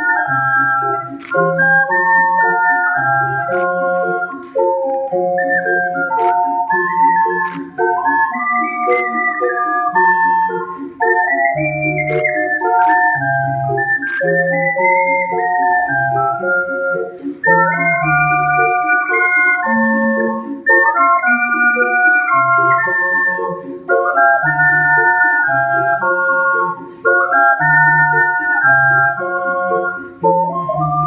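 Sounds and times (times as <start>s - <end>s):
ocarina ensemble playing: 0.0s - 31.0s.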